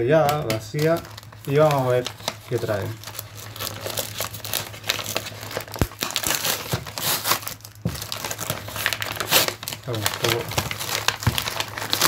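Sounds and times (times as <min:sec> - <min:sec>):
paper tearing and crinkling: 0:00.4 - 0:12.0.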